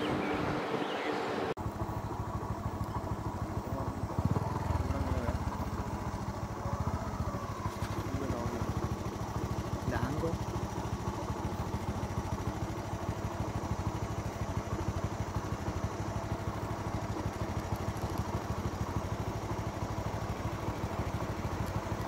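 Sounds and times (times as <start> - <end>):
traffic: 0.0 - 22.0
vehicle engine idling: 0.0 - 22.0.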